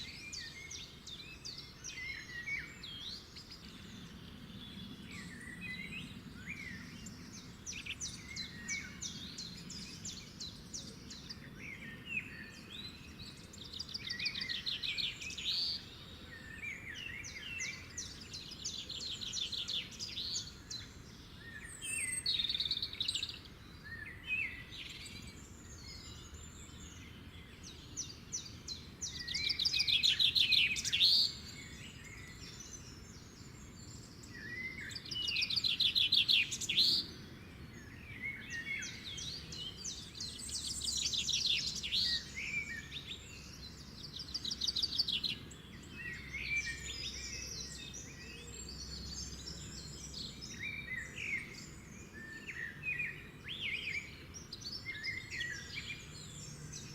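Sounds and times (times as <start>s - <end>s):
songbirds singing and calling: 0.0s - 56.9s.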